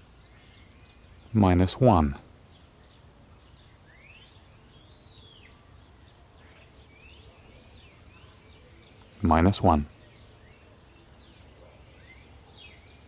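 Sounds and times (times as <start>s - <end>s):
faint birdsong: 0.0s - 13.0s
low steady background noise: 0.0s - 13.0s.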